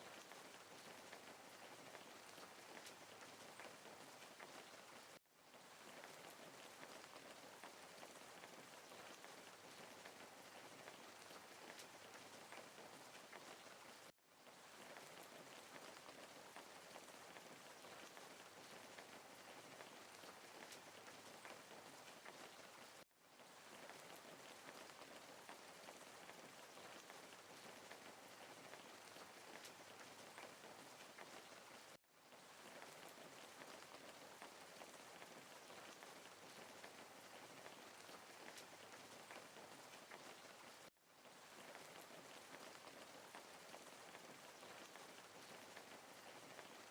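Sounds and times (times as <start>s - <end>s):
faint rain falling: 0.0s - 46.9s.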